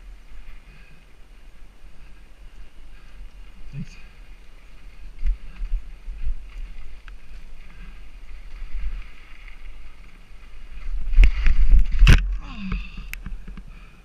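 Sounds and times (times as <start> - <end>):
wind on microphone: 0.0 - 13.9
mountain bike rattling over rocks: 2.5 - 13.9.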